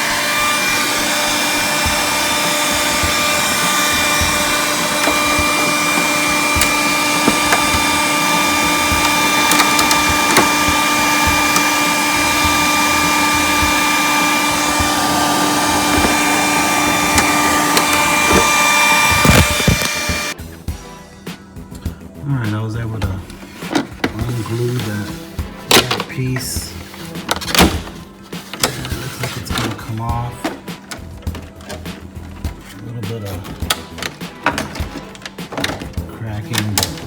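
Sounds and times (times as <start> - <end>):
hair dryer whining: 0.0 - 20.9, 23.1 - 37.0.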